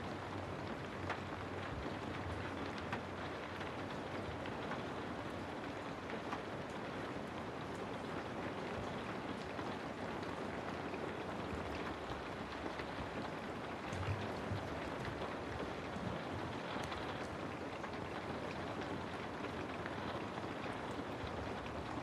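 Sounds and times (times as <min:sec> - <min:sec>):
raindrop ticks: 0:00.1 - 0:22.0.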